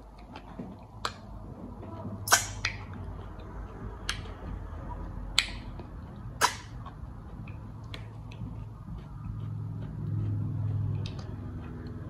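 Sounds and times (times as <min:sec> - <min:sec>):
faint low hum: 0:00.0 - 0:12.0
wet mouth smacks and sucking: 0:02.2 - 0:12.0.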